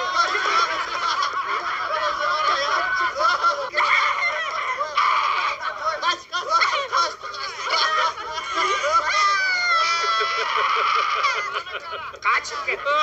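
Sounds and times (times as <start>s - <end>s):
group of people laughing: 0.0s - 13.0s.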